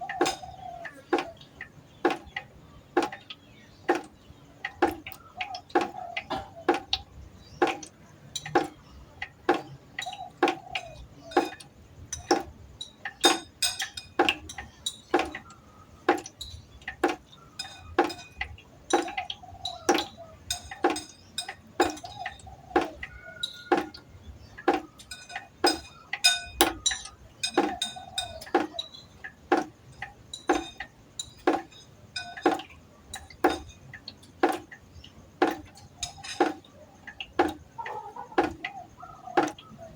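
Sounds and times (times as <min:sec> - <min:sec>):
water drops plinking into pots: 0:00.0 - 0:39.9.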